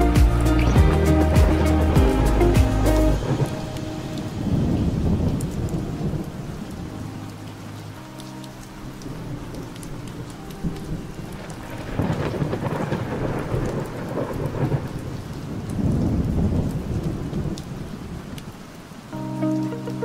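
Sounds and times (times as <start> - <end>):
thunder rumbling: 0.0 - 7.0, 9.0 - 18.4
steady rain: 0.0 - 20.0.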